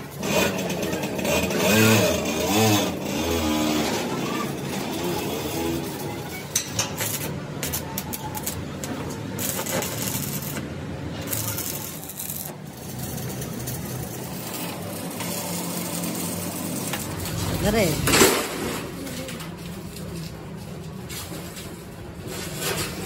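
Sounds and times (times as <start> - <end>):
factory machinery humming: 0.0 - 23.0.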